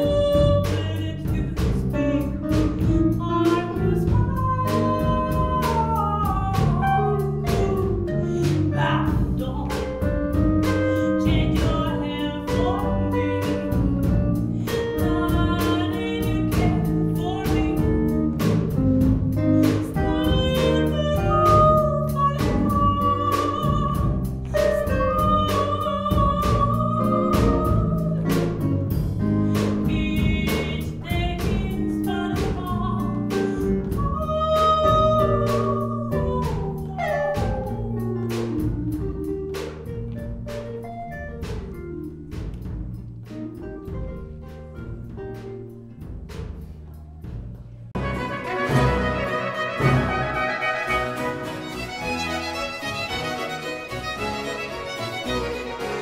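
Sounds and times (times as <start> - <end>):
woman singing jazz: 0.0 - 41.8, 48.0 - 51.8
bass guitar: 0.0 - 56.0
drum kit beat: 0.0 - 56.0.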